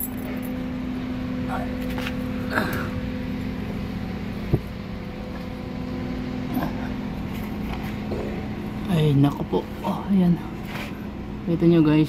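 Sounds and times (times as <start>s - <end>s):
motor drone: 0.0s - 12.0s.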